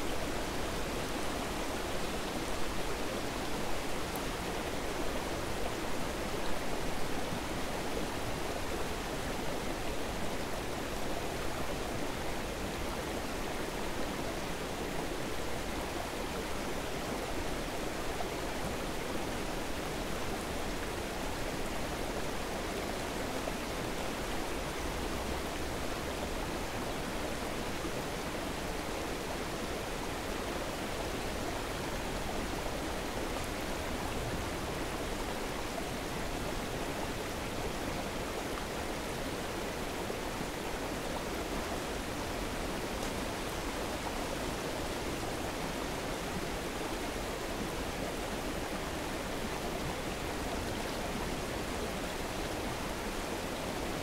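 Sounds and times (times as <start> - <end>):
waterfall and stream rushing: 0.0 - 54.0.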